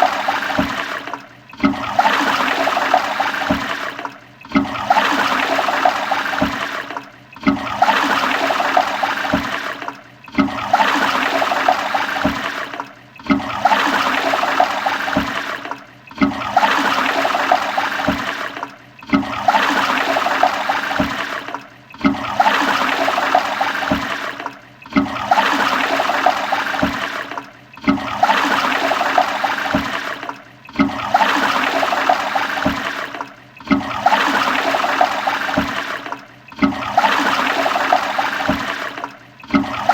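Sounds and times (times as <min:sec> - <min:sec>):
toilet flushing: 0:00.0 - 0:39.9.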